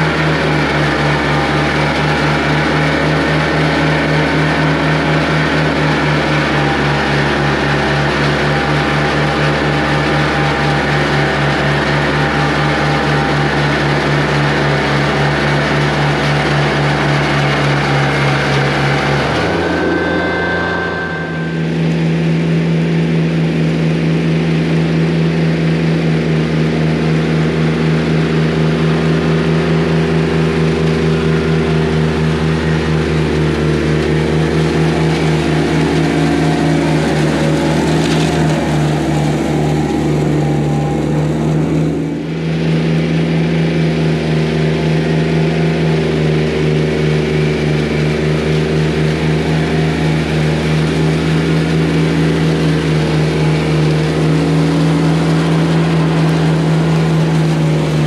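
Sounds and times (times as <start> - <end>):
bale chopper engine running: 0.0 - 58.0.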